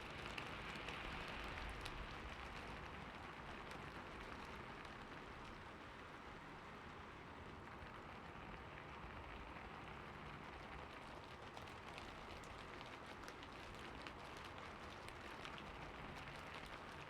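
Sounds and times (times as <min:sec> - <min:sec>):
soft rain: 0:00.0 - 0:17.0.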